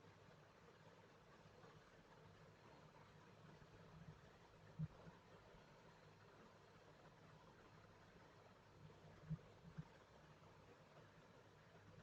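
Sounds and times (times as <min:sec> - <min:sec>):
low steady hum and hiss: 0:00.0 - 0:12.0.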